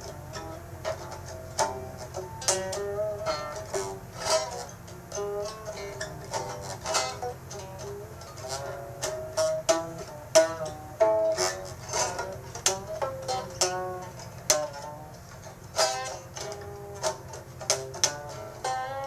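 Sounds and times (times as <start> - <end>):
plucked string notes: 0.0 - 19.0.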